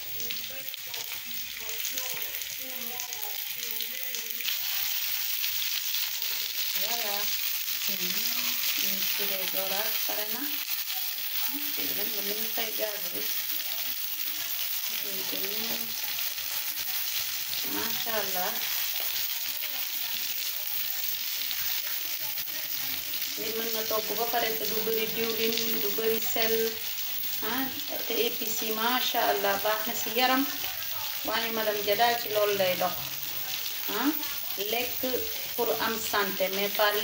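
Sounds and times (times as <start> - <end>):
fish fillets sizzling in a pan: 0.0 - 37.0.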